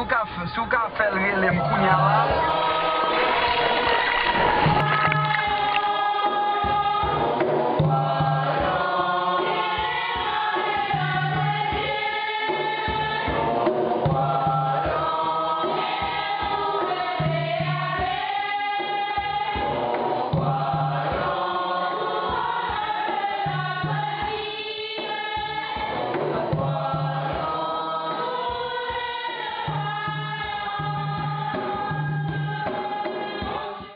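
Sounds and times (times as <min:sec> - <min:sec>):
steady drum beat: 0:00.0 - 0:33.9
choir singing: 0:01.4 - 0:33.9.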